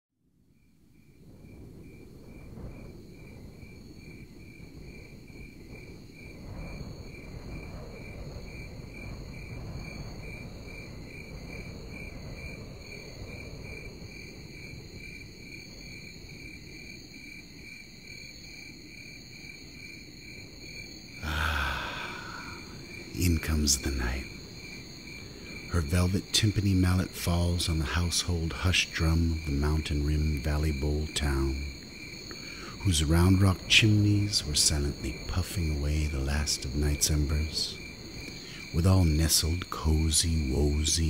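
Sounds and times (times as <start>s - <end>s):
crickets chirping: 0.4s - 41.0s
insect trill: 0.4s - 41.0s.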